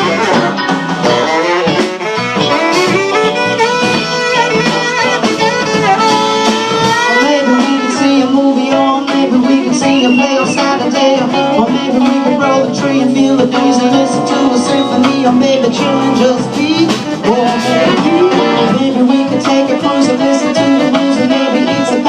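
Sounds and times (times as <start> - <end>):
guitar: 0.0 - 22.0
saxophone lead: 0.0 - 22.0.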